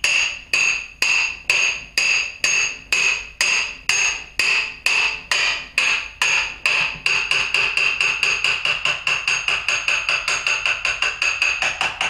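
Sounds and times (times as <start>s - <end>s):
hammer striking ringing metal tube: 0.0s - 12.0s.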